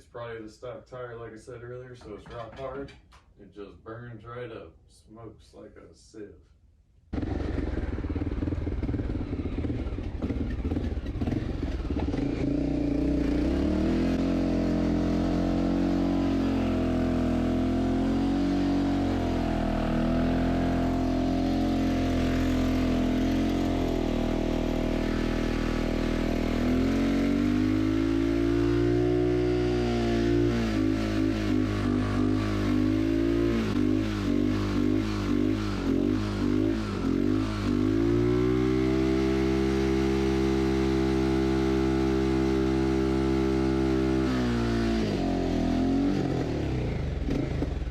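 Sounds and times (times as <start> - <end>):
motorcycle engine revving high: 7.2 - 47.9.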